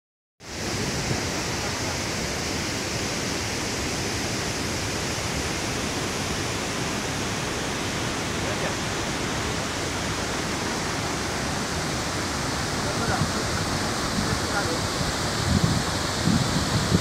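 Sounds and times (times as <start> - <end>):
waterfall rushing: 0.4 - 17.0.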